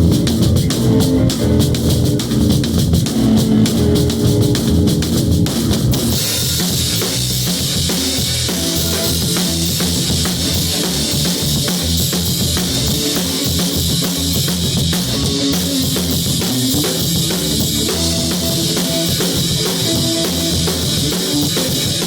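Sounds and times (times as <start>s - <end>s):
bass drum: 0.0s - 22.0s
rock music: 0.0s - 22.0s.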